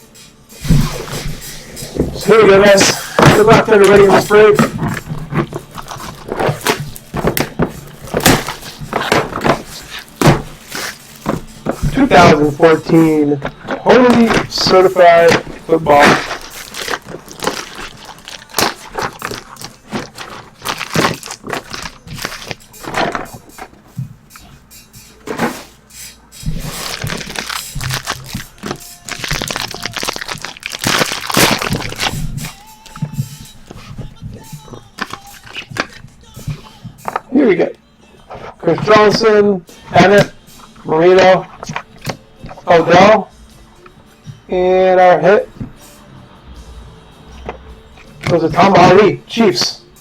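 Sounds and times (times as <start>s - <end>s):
cardboard and wrappers rustling: 0.0s - 45.9s, 47.4s - 49.8s.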